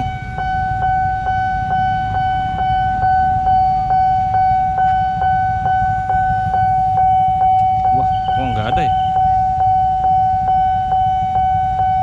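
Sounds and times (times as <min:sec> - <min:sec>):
level crossing warning bell: 0:00.0 - 0:12.0
motorcycles and cars idling: 0:00.0 - 0:12.0.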